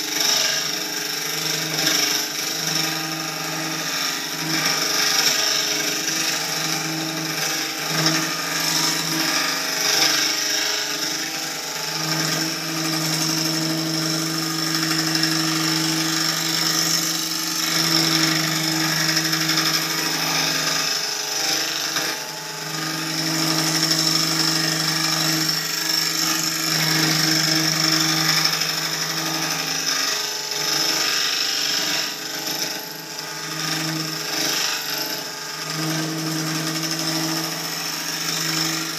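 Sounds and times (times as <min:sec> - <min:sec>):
lathe low hum: 0:00.0 - 0:38.9
lathe tool cutting wood: 0:00.0 - 0:38.9.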